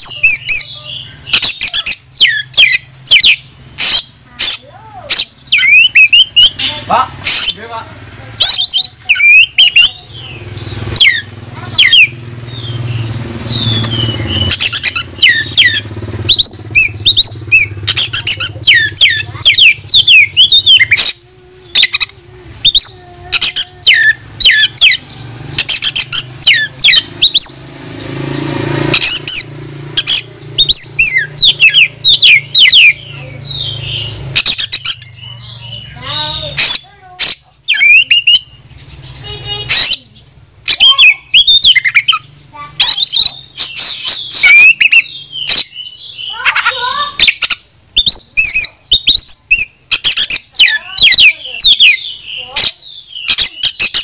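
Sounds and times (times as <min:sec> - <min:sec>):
bird singing whistles and chatter: 0:00.0 - 0:07.7, 0:08.4 - 0:54.0.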